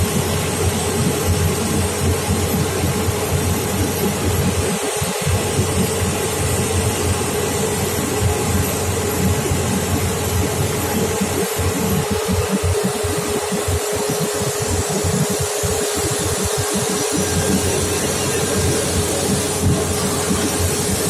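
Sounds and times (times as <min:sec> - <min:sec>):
jet engines at taxi power: 0:00.0 - 0:21.0.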